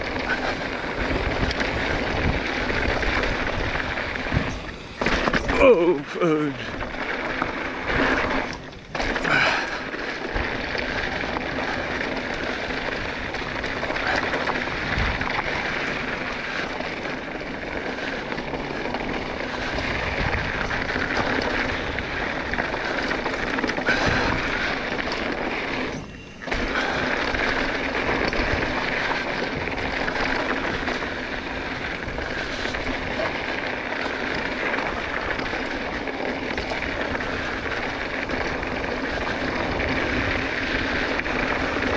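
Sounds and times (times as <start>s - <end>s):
bike tyres crunching on gravel: 0.0s - 41.9s.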